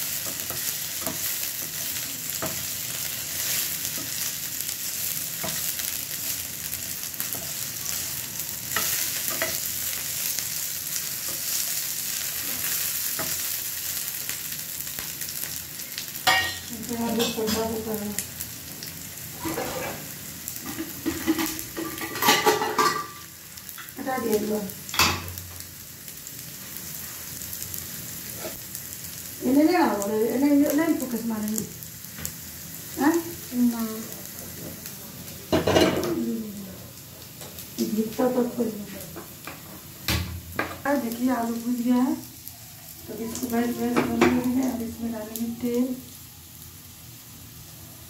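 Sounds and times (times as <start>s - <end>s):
potatoes sizzling in oil: 0.0s - 48.0s.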